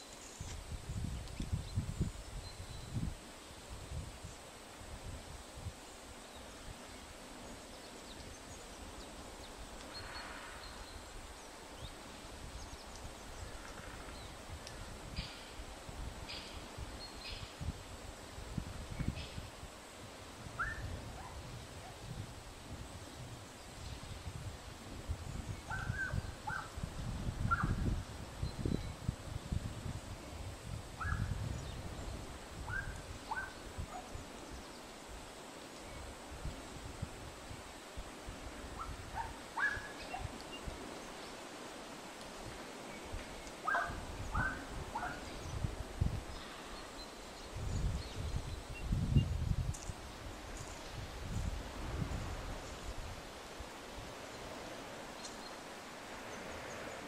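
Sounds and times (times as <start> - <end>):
leaves rustling in breeze: 0.0 - 57.0.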